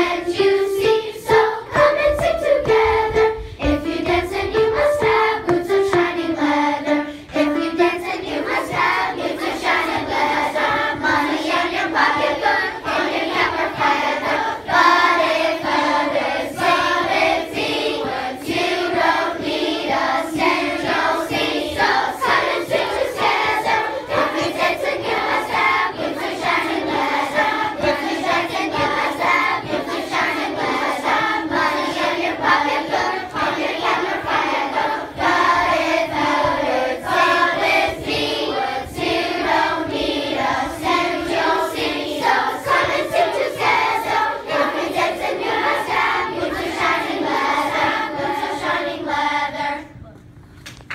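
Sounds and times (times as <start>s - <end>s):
children's choir singing: 0.0s - 50.1s.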